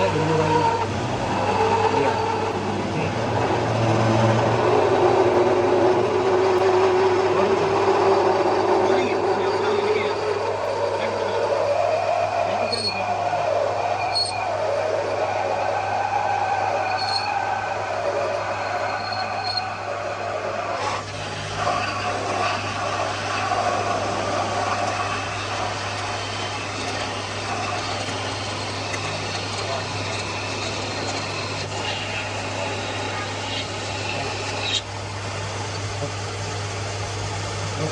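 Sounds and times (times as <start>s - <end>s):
high metallic squealing: 0.0s - 20.3s, 21.6s - 34.9s
metalworking lathe humming: 0.0s - 37.9s.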